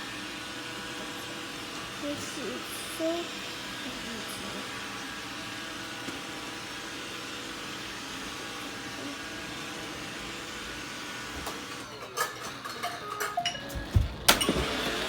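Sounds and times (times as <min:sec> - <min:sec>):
robot vacuum whirring: 0:00.0 - 0:11.8, 0:13.8 - 0:15.0.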